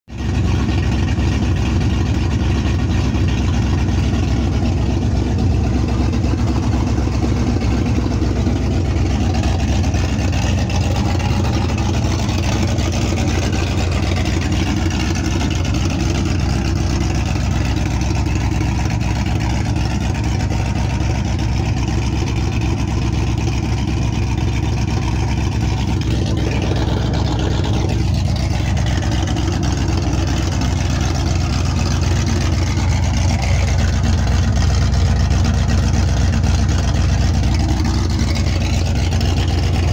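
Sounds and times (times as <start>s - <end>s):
engine idling: 0.1s - 39.9s.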